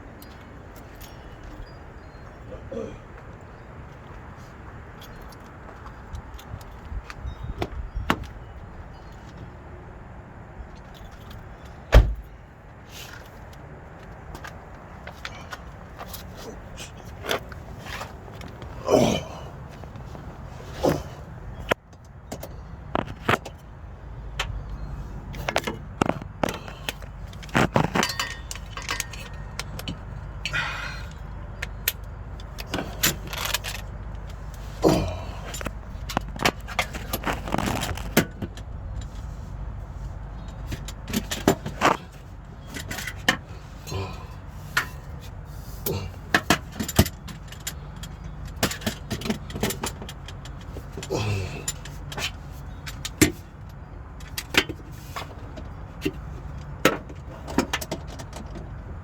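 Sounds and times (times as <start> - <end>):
tools and parts clicking and rattling: 10.7 - 12.3, 13.0 - 59.0.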